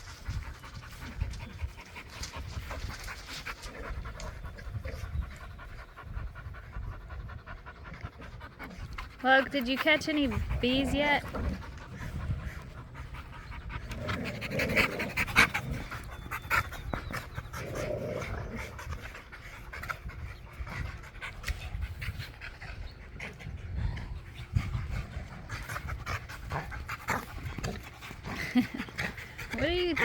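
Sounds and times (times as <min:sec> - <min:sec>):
dog panting: 0:00.0 - 0:30.0.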